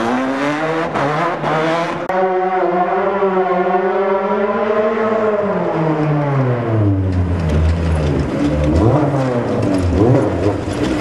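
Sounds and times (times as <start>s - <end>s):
race buggy engine running hard: 0.0s - 11.0s.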